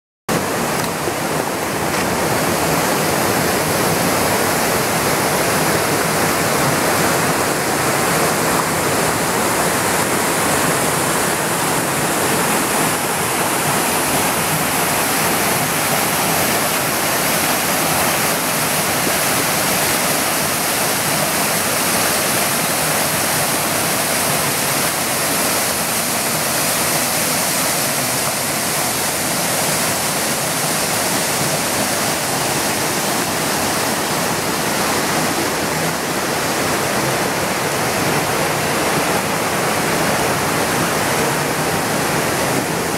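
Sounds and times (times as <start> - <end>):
waterfall rushing into a pool: 0.3 - 42.9.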